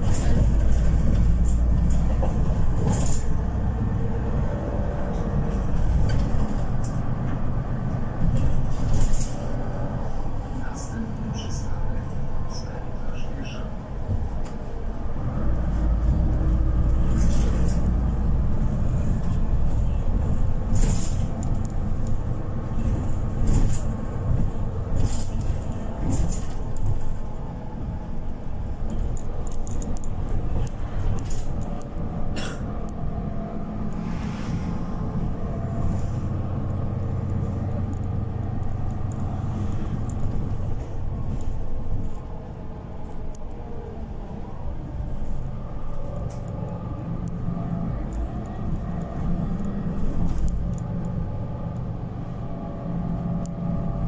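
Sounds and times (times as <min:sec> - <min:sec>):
bus interior rattling clicks: 0:00.0 - 0:33.6, 0:35.2 - 0:54.0
bus engine and tyre rumble: 0:00.0 - 0:54.0.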